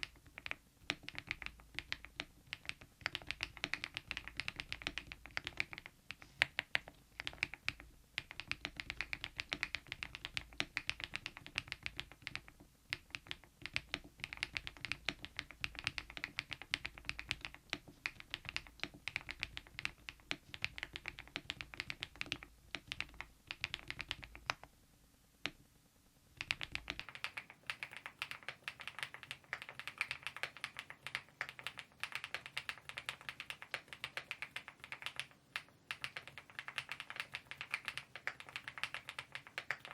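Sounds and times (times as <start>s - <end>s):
typing on mechanical keyboard: 0.0s - 24.7s, 26.4s - 39.9s.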